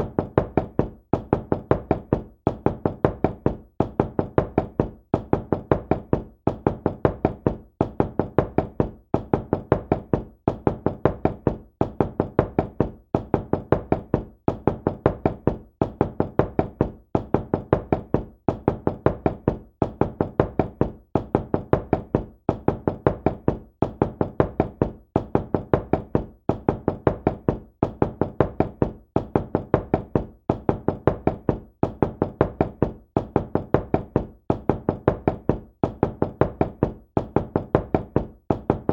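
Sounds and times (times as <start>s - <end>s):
knocking on a door: 0.0s - 38.9s.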